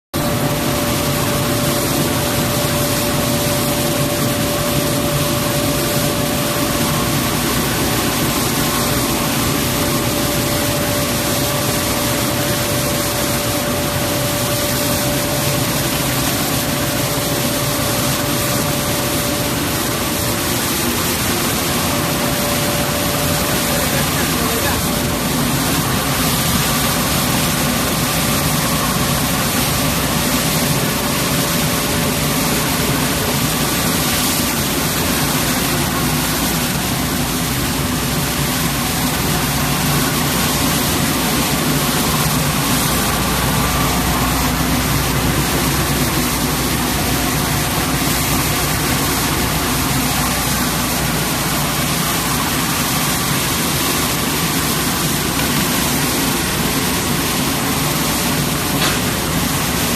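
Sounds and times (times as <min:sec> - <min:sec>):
faint hum tones: 0:00.2 - 0:59.9
rice mill rushing noise: 0:00.2 - 0:59.9.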